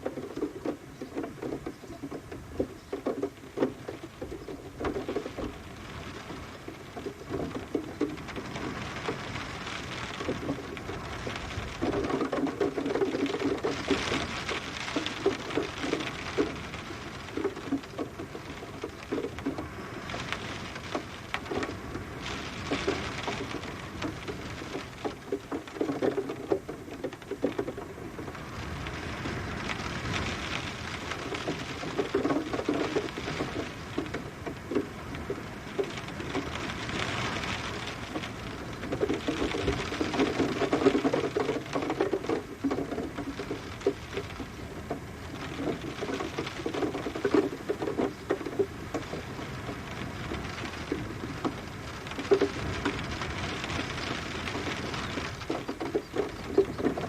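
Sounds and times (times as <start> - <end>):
rain pattering on a surface: 0.0 - 57.0.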